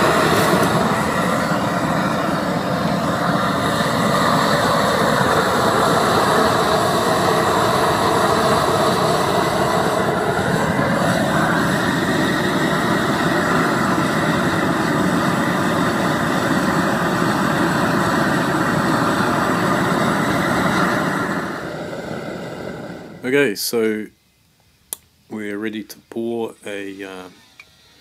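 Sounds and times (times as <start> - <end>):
gas burner flame roaring: 0.0 - 24.0, 25.4 - 28.0.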